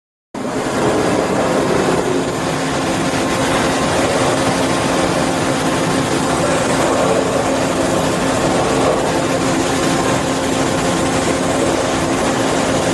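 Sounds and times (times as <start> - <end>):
machining center running: 0.4 - 12.9.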